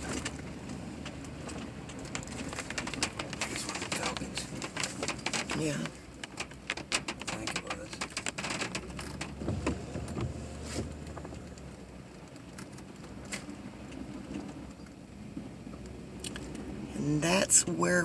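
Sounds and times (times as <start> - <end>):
light clicks and ticks: 0.0 - 15.0, 15.7 - 16.7
vehicle low hum: 0.0 - 18.0.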